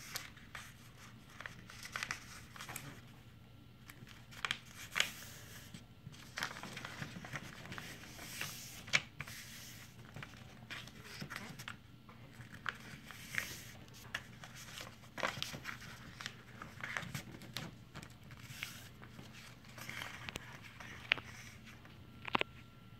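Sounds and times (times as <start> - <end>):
paper rustling and crinkling: 0.0 - 3.2, 3.8 - 22.5.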